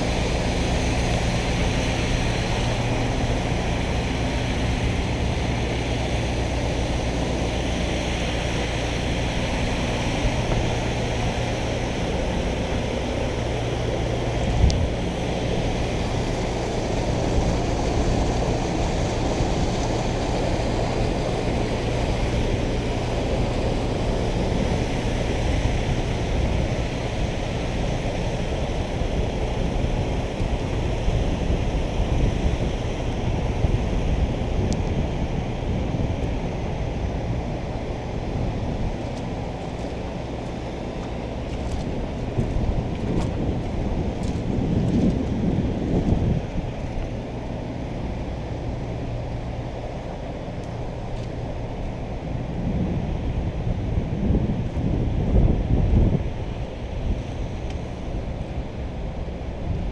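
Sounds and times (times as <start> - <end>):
steady motor drone: 0.0 - 59.9
water noise: 0.0 - 59.9
wind: 0.0 - 59.9.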